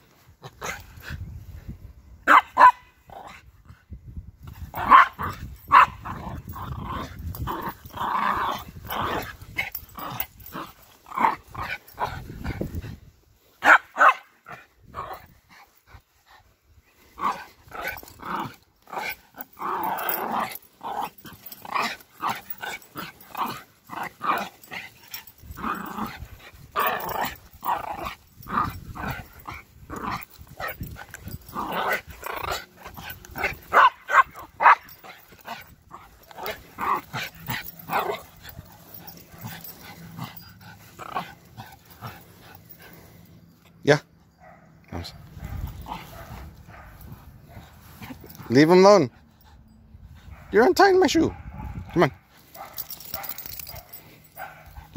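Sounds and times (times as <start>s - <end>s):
dog growling and barking: 2.2s - 3.8s, 4.5s - 43.6s, 44.4s - 50.6s, 51.3s - 54.9s.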